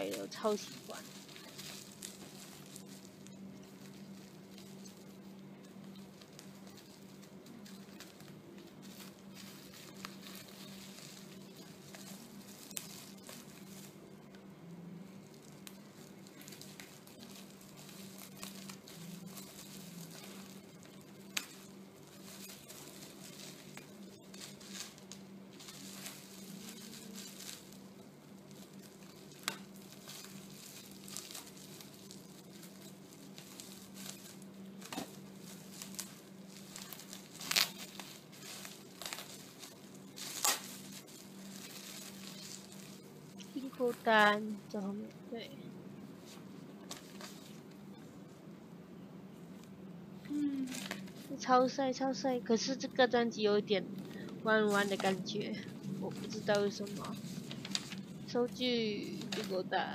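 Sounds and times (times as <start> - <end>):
paper packaging rustling: 0.0 - 14.5, 15.1 - 44.5, 46.2 - 48.0, 50.7 - 51.4, 54.1 - 59.7
steady low hum: 0.0 - 59.9.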